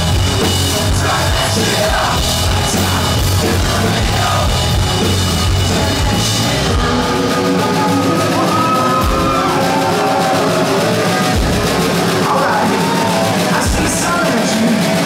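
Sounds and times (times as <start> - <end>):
drum kit: 0.0 - 15.0
electric bass guitar: 0.0 - 15.0
rock band playing live: 0.0 - 15.0.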